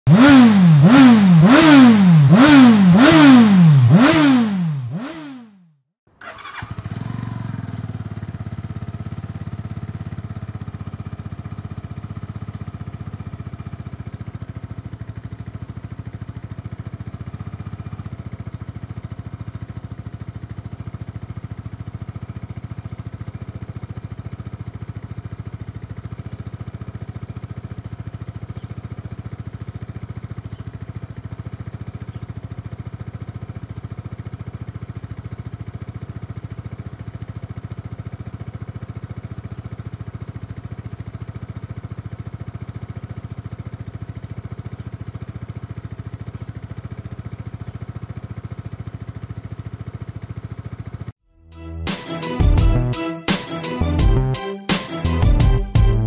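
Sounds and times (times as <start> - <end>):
motorcycle engine starting and idling: 0.1 - 51.2.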